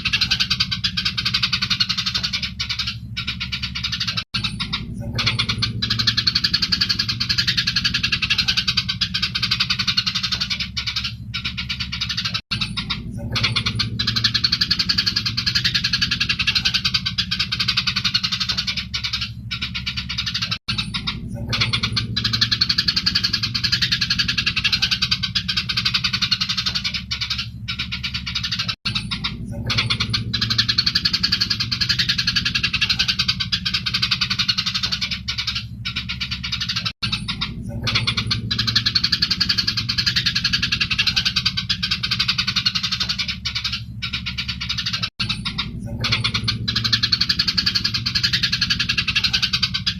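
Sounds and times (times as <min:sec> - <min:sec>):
low steady hum: 0:00.0 - 0:49.9
sparrows chirping and chattering: 0:00.0 - 0:49.9.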